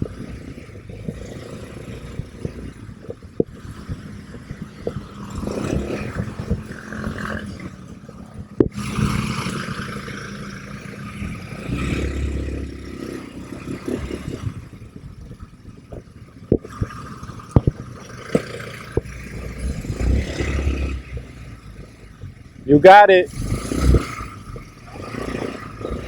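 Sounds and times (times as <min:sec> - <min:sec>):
quad bike engine running: 0:00.0 - 0:26.0
sharp knocks and rattles: 0:01.0 - 0:22.5.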